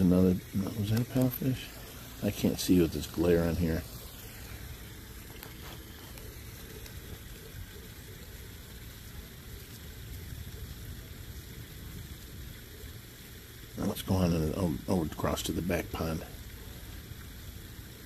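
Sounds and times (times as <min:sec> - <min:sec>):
waterfall falling water: 0:00.0 - 0:18.0.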